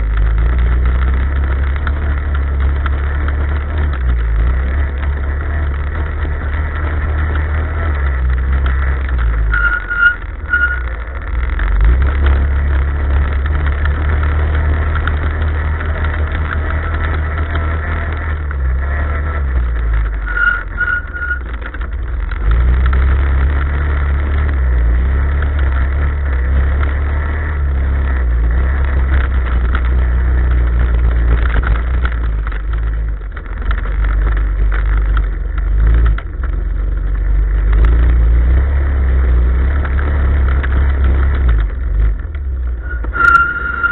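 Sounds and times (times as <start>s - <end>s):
off-road vehicle engine droning: 0.0s - 43.9s.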